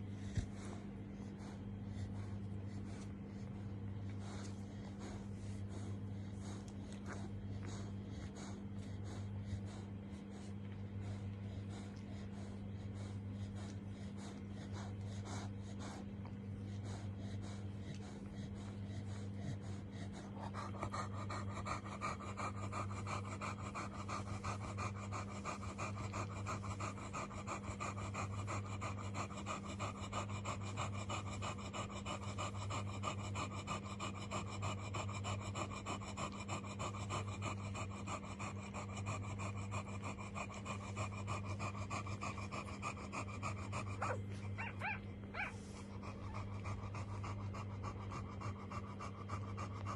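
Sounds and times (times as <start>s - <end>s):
dog panting: 0.0s - 49.9s
steady low hum: 0.0s - 49.9s.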